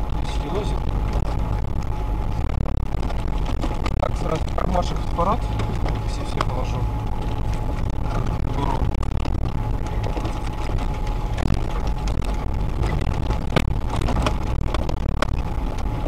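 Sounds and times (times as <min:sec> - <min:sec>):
faint steady whine: 0:00.0 - 0:16.0
vehicle engine and road rumble: 0:00.0 - 0:16.0
knocks and rattles: 0:00.8 - 0:16.0.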